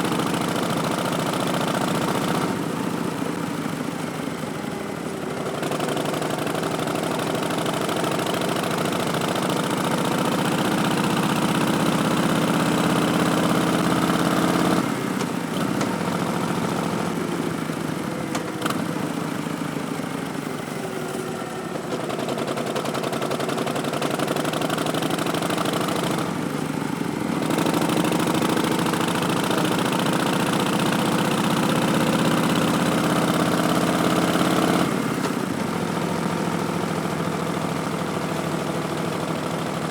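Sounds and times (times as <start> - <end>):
motorcycle accelerating: 0.0 - 39.9.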